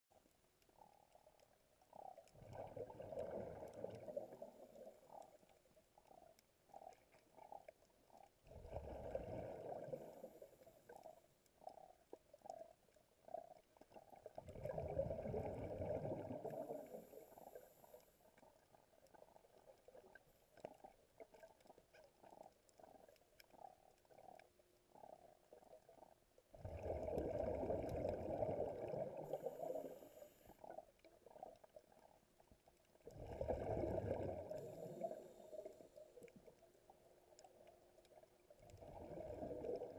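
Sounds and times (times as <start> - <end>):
underwater bubbles burbling: 0.2 - 39.9.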